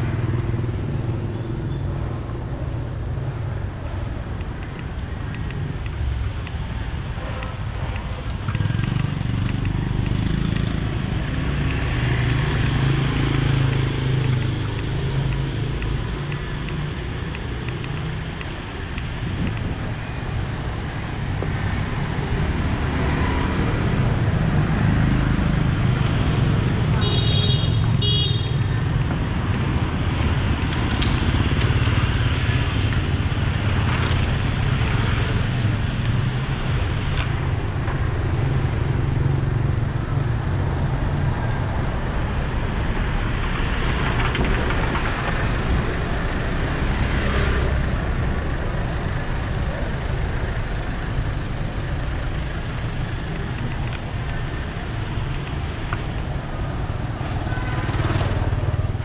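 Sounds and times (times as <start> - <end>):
traffic hum of engines and tyres: 0.0 - 59.0
vehicles passing close by: 0.0 - 59.0.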